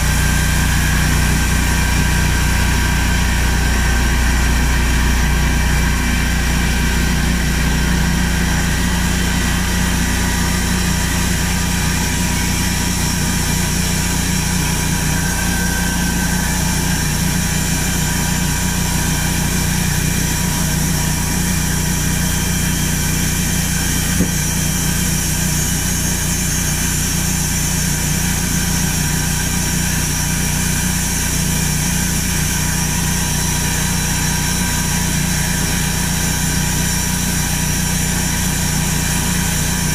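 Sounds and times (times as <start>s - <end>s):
band sawmill hum and whine: 0.0s - 39.9s.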